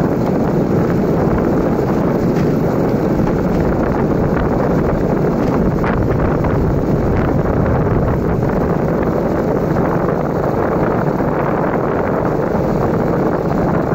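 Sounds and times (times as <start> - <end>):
vehicle moving on dirt road: 0.0 - 13.9
wind buffeting microphone: 0.0 - 13.9.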